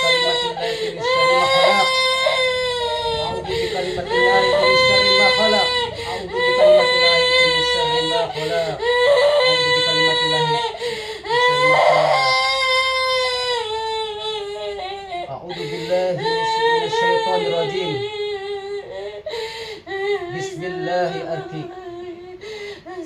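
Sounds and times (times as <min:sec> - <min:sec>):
woman wailing: 0:00.0 - 0:19.3.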